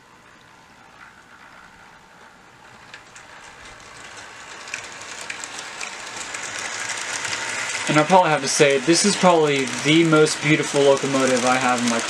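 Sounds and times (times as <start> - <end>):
model train rumbling on track: 0.0 - 12.0
track clicks: 0.2 - 12.0.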